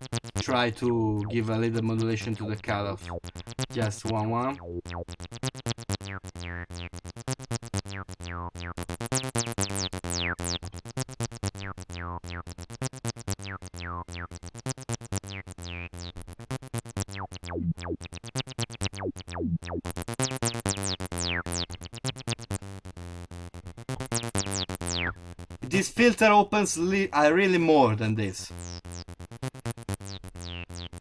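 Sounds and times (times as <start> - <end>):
acid synth bassline: 0.0 - 31.0.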